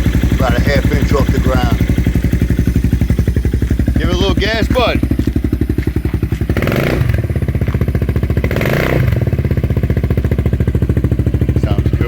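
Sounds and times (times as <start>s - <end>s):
scooter engine idling and revving: 0.0s - 12.0s.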